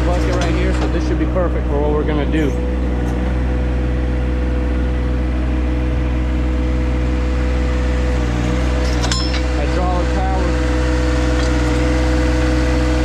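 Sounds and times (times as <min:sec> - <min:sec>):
steady hum: 0:00.0 - 0:13.0
tractor diesel engine running: 0:00.0 - 0:13.0.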